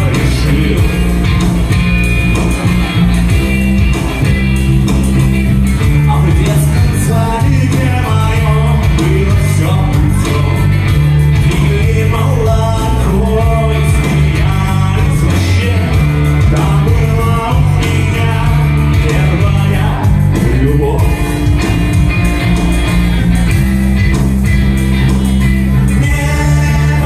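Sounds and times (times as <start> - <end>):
electric guitars: 0.0 - 27.0
loud low bass line: 0.0 - 27.0.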